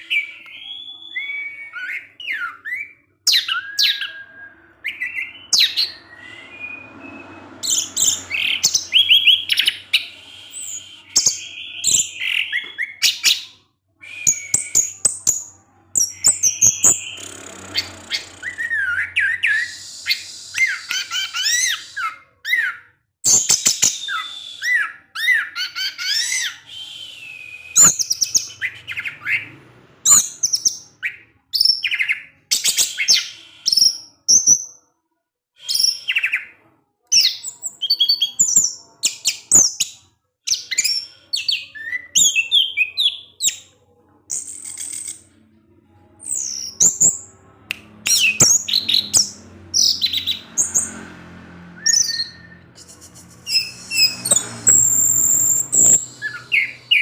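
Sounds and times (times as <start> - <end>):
bird chirping and twittering: 0.0 - 34.8, 37.2 - 57.0.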